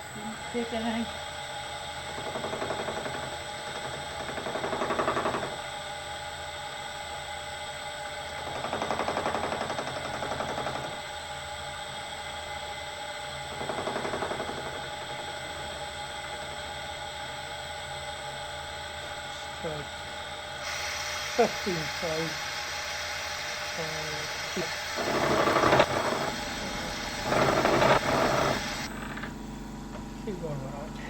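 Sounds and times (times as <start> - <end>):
milling machine humming: 0.0 - 31.0.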